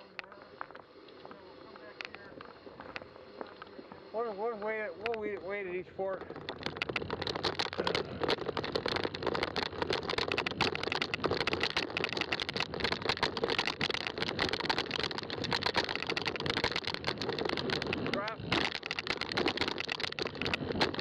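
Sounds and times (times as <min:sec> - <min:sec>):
bike rattling: 0:00.0 - 0:21.0
bike tires crunching on trail: 0:00.0 - 0:21.0.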